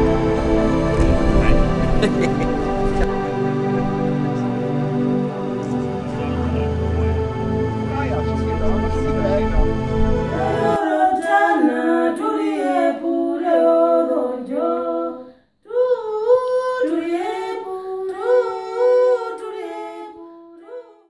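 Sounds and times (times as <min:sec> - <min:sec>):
voices singing a cappella harmony: 0:00.0 - 0:21.0.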